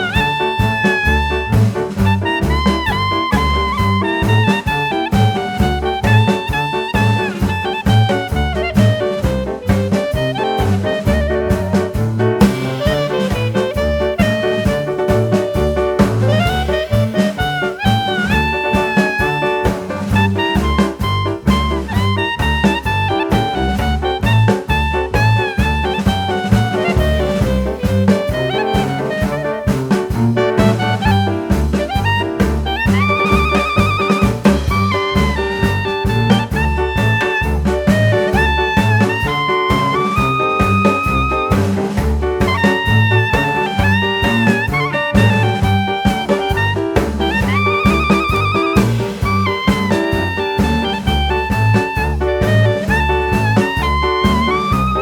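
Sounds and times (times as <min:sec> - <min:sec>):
saxophone melody: 0:00.0 - 0:55.0
upbeat swing jazz music: 0:00.0 - 0:55.0.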